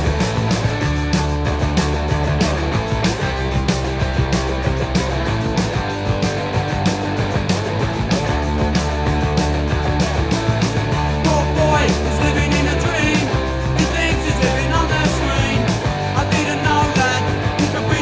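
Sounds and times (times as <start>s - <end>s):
punk rock band playing: 0.0s - 18.0s.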